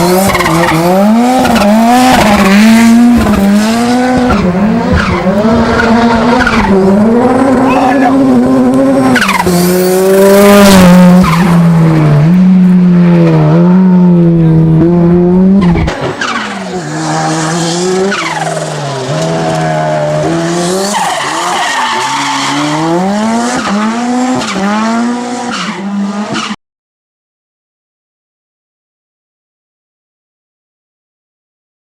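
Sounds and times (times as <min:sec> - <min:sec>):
racing car engine revving: 0:00.0 - 0:26.6.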